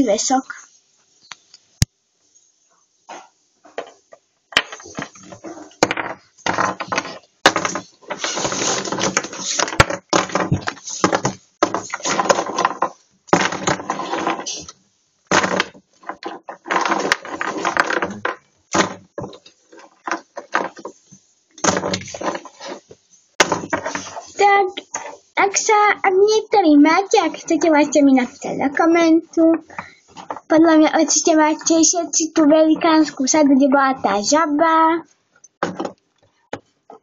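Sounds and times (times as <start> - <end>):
rustling and clattering objects: 2.7 - 34.4, 35.0 - 37.0.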